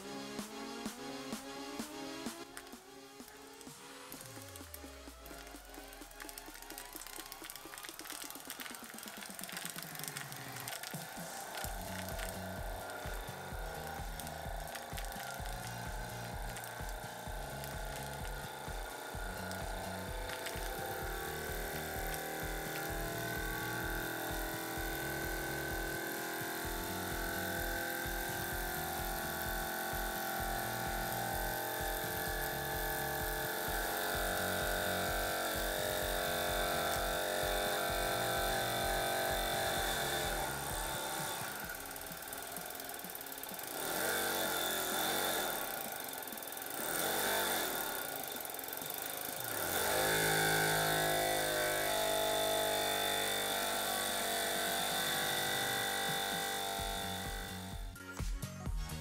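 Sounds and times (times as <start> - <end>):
steam engine chuffing: 1.8 - 58.0.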